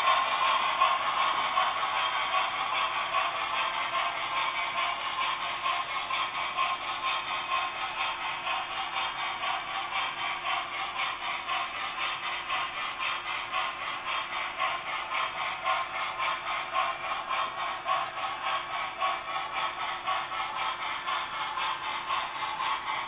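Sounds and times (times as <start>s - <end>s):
model train wheels clattering: 0.0s - 23.0s.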